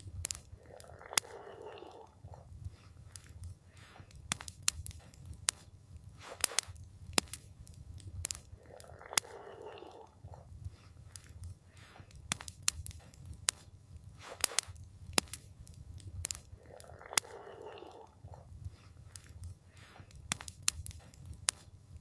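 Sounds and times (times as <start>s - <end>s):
campfire crackling: 0.0s - 22.0s
soft rushing hiss: 0.0s - 22.0s.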